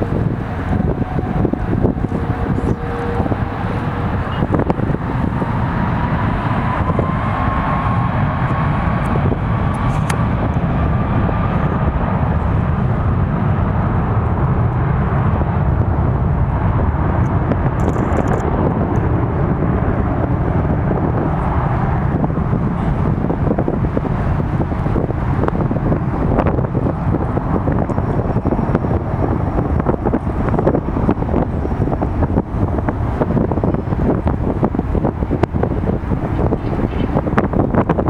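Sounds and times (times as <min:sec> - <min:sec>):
thin rising engine whine: 0:00.0 - 0:14.1, 0:18.4 - 0:38.0
jet engines rumbling: 0:00.0 - 0:38.0.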